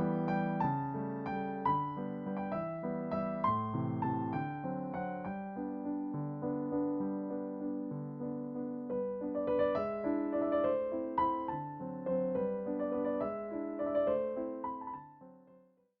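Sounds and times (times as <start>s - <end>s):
gentle piano music: 0.0s - 15.9s.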